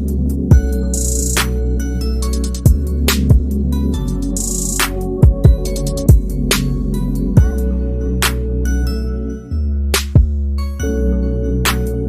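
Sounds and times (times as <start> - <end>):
music with bass and drums: 0.0 - 11.0, 11.6 - 12.0.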